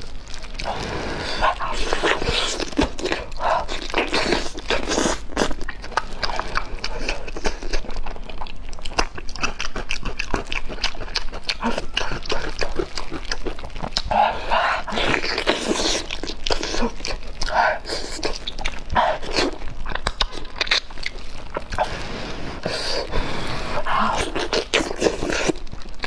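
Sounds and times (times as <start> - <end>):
chewing and lip-smacking: 0.0 - 26.0.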